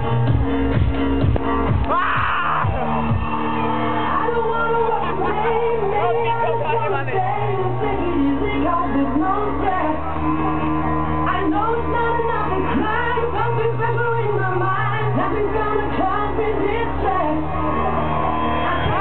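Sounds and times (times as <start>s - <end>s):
held bass line: 0.0s - 19.0s
loud house dance music: 0.0s - 19.0s.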